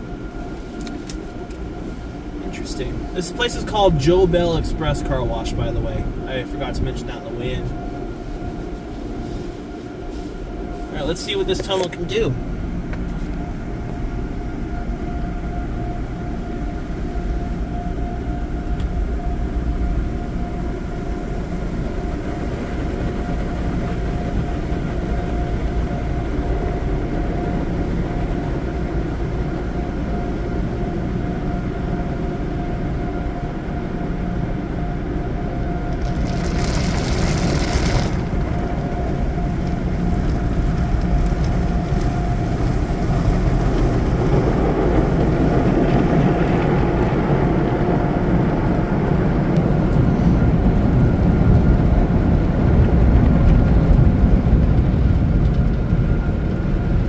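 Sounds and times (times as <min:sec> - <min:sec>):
car wash machinery rumble: 0:00.0 - 0:57.0.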